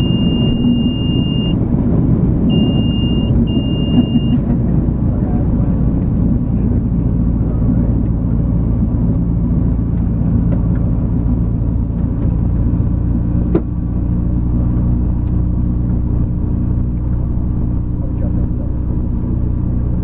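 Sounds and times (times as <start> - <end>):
light aircraft engine running: 0.0 - 20.0.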